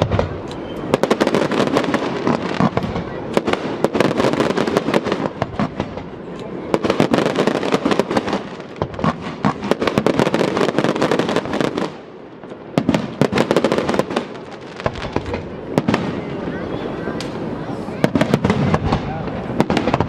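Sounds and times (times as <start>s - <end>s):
fireworks bangs: 0.0s - 20.0s
fireworks crackling and popping: 0.0s - 20.0s.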